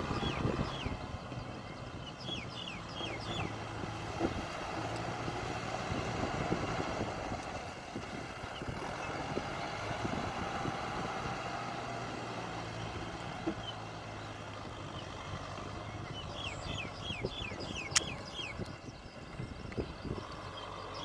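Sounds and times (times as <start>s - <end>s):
tractor engine running hard: 0.0s - 21.0s.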